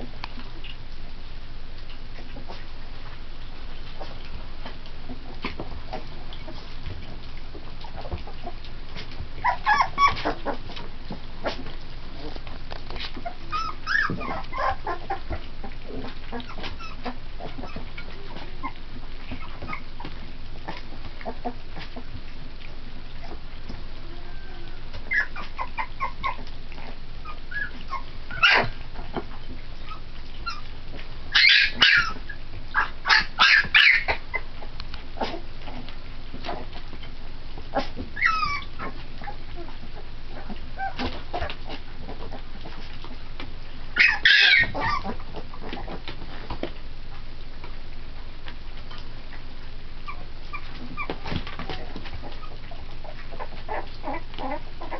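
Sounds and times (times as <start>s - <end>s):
wet lapping and smacking: 0.0s - 54.9s
puppies squeaking and whimpering: 5.0s - 43.4s, 44.0s - 46.7s, 50.0s - 54.9s.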